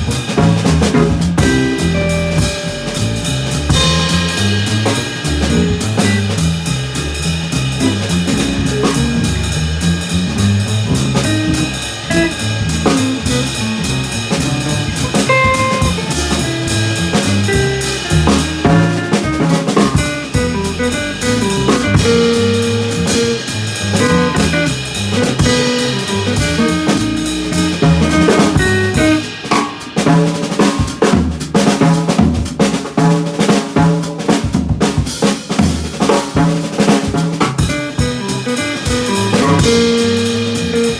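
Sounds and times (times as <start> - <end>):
drum kit with snare: 0.0 - 40.9
instrumental band playing: 0.0 - 40.9.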